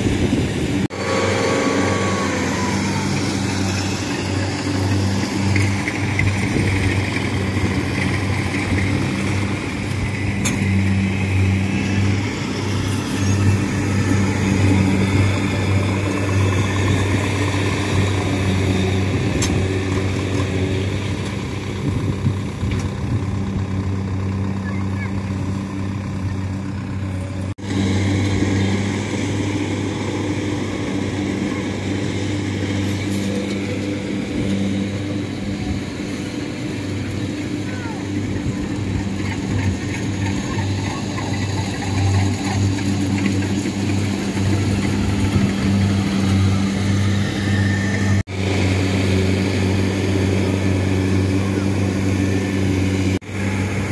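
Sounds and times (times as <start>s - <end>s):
diesel engines droning: 0.0s - 53.9s.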